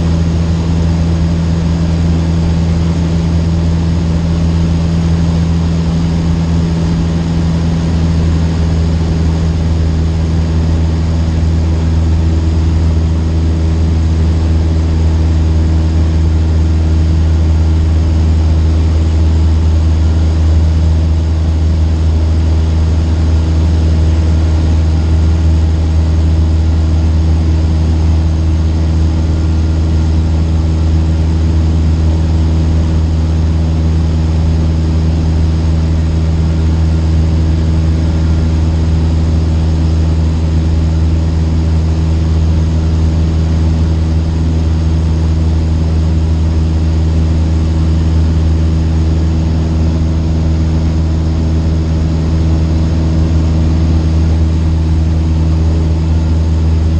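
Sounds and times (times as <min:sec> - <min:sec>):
propeller plane engine drone: 0:00.0 - 0:56.9.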